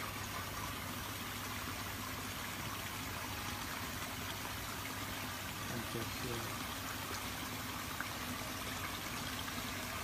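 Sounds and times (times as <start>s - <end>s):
running water in a pond: 0.0s - 10.0s.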